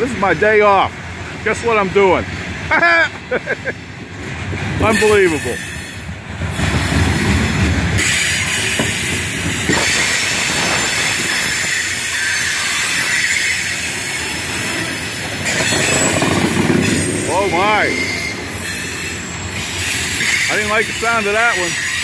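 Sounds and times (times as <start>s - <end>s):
freight train wheels on rail: 0.0s - 22.0s.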